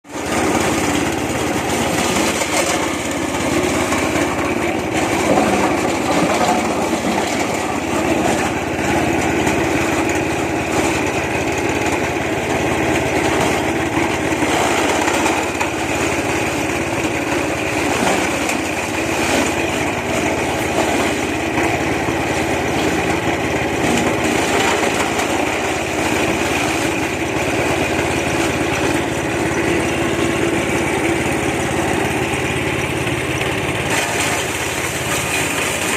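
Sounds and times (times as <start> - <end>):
petrol engine running steadily: 0.0 - 35.9.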